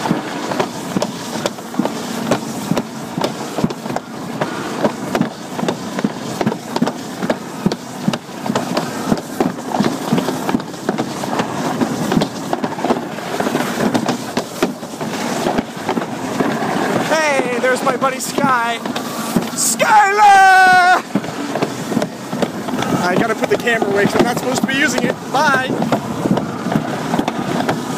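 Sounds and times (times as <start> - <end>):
sled clacks and knocks: 0.0 - 27.9
sled rolling rumble on track: 0.0 - 27.9.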